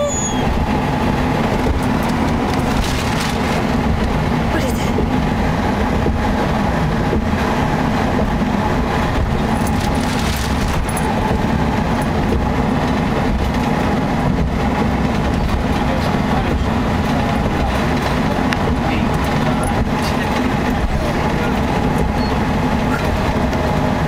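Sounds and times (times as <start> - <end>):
road and engine noise in car: 0.0 - 24.0.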